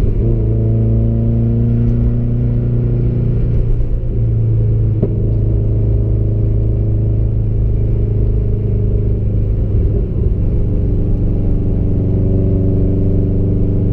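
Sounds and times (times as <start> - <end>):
car engine cruising: 0.0 - 13.9
road rumble: 0.0 - 13.9.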